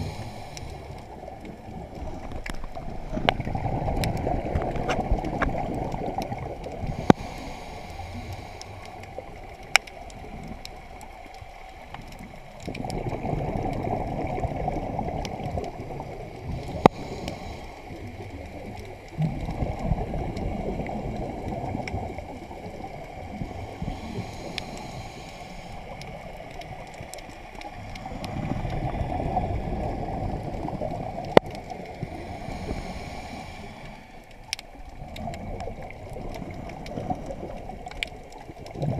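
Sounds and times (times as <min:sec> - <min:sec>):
diver's bubbles gurgling underwater: 0:00.0 - 0:38.9.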